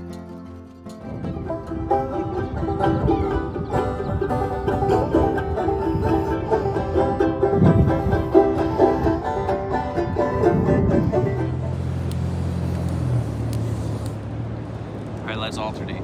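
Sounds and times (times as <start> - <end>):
banjo picking: 0.0 - 13.2.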